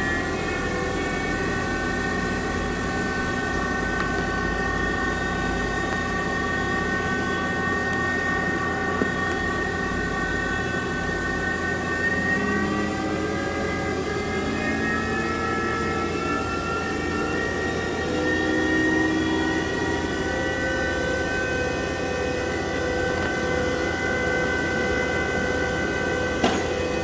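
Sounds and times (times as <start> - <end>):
low hum: 0.0 - 27.0
machine mechanical whine: 0.0 - 27.0.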